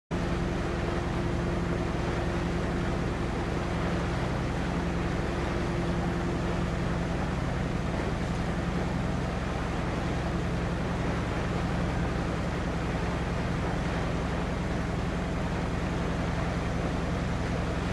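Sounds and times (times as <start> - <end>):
boat engine running: 0.1 - 17.9.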